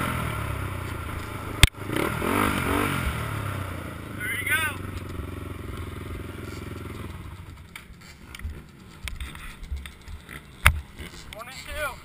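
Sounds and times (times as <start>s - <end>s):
quad engine idling: 0.0s - 12.0s.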